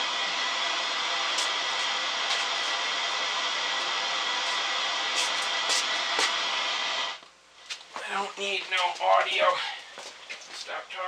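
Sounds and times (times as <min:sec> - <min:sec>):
television static hiss: 0:00.0 - 0:11.0.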